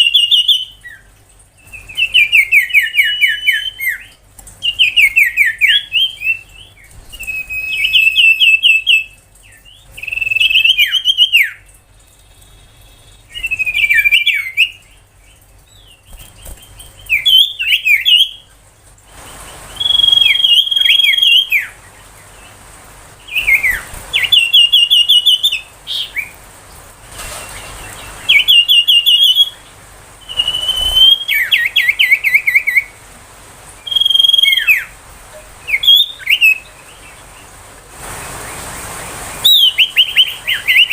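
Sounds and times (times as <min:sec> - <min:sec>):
bird singing trills and whistles: 0:00.0 - 0:18.5, 0:19.2 - 0:22.0, 0:23.2 - 0:26.4, 0:27.4 - 0:33.0, 0:33.8 - 0:37.2, 0:39.4 - 0:40.9.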